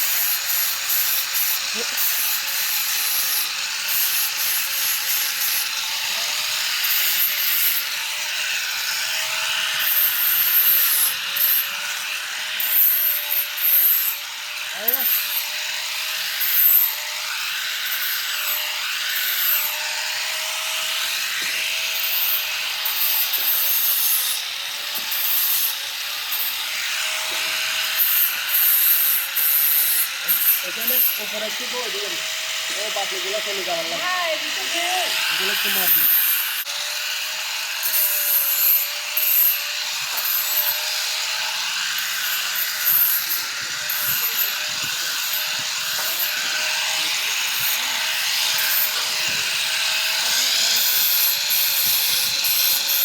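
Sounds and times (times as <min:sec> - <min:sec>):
arc welding crackling hiss: 0:00.0 - 0:07.9, 0:09.8 - 0:15.4, 0:21.2 - 0:36.7, 0:37.8 - 0:53.0.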